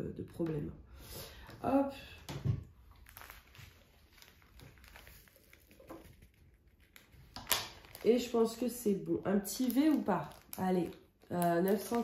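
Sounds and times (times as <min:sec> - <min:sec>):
plastic bags being handled: 0:00.3 - 0:12.0
sharp plastic crackle: 0:01.4 - 0:12.0.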